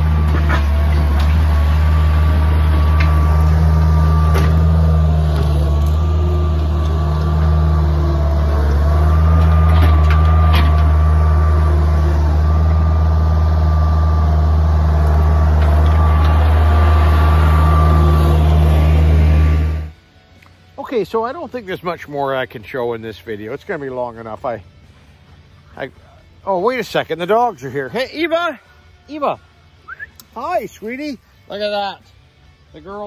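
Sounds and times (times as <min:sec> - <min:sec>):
loader engine running: 0:00.0 - 0:27.6
high whine: 0:00.0 - 0:33.0.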